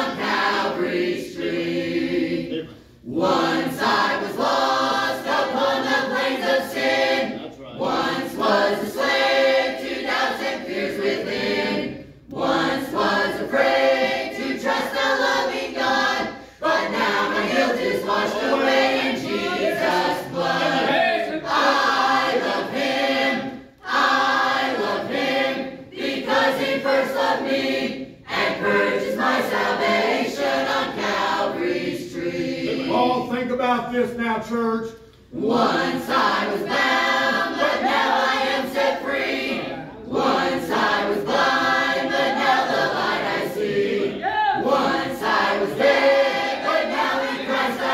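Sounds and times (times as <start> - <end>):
church choir singing a hymn: 0.0 - 34.1, 35.3 - 47.9.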